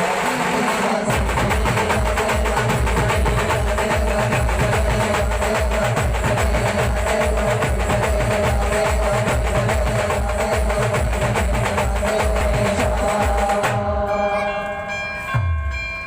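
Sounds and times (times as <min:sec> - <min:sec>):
bass drum beat: 0:01.0 - 0:14.0.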